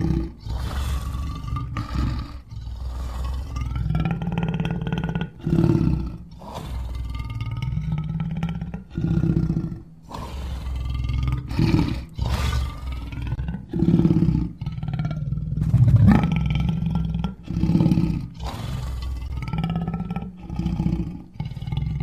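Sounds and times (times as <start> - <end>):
lion roaring: 0.0 - 22.0.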